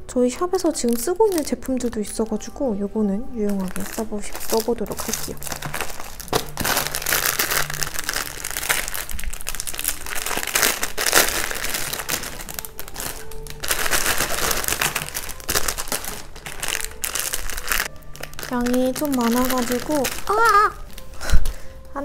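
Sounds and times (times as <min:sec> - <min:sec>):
quiet background music: 0:00.0 - 0:22.0
packaging crinkling and rustling: 0:00.6 - 0:01.6, 0:03.3 - 0:22.0.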